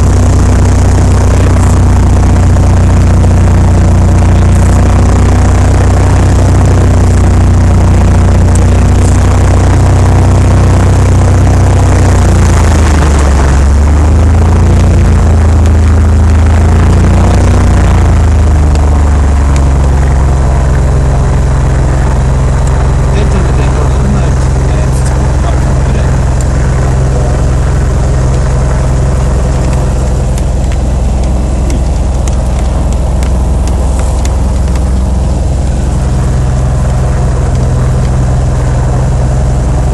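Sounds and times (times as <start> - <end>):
piston aircraft engine and propeller: 0.0 - 39.9.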